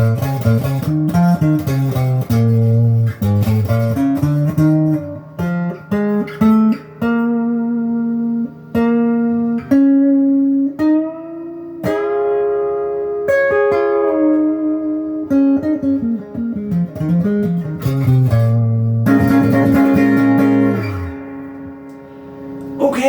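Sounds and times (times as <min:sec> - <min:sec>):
clean electric guitar with reverb: 0:00.0 - 0:23.0.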